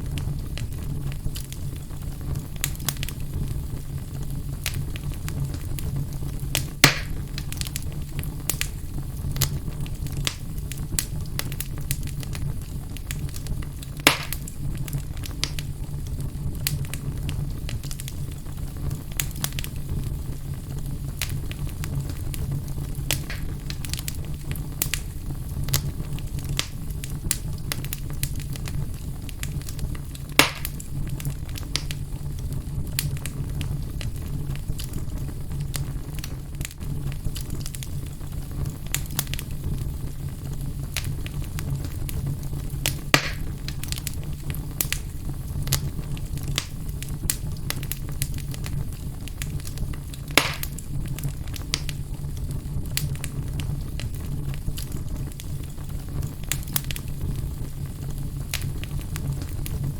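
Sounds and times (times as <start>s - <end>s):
fire popping sharply: 0.0s - 59.9s
wood fire crackling: 0.0s - 59.9s.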